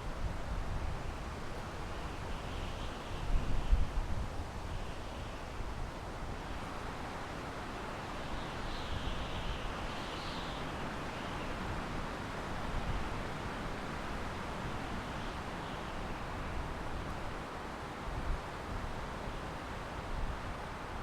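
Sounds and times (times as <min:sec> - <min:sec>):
wind through pine trees: 0:00.0 - 0:21.0.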